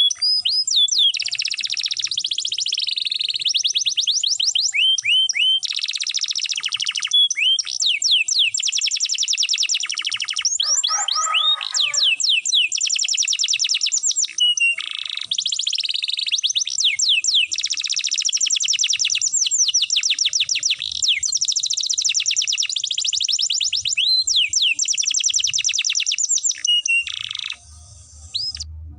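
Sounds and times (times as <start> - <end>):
canary singing rolling trills: 0.0 - 28.9.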